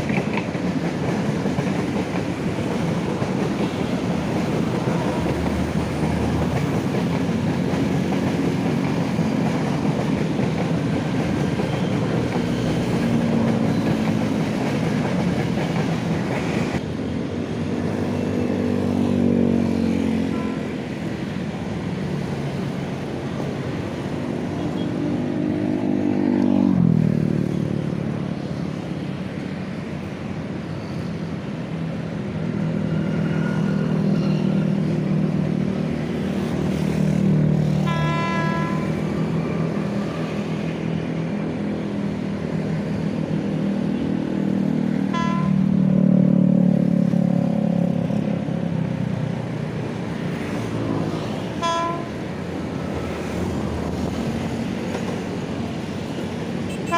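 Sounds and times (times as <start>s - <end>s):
electric train rumbling past: 0.0s - 56.9s.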